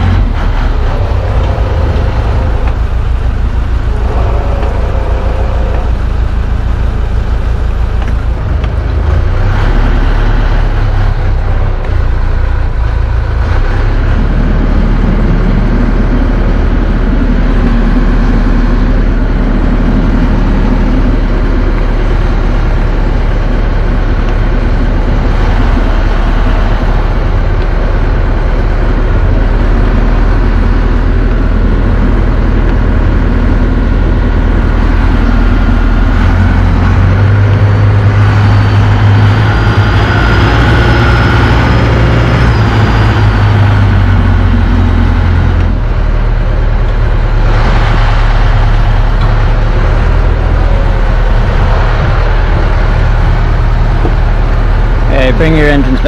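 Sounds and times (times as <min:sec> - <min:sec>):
boat engine running under load: 0:00.0 - 0:56.0.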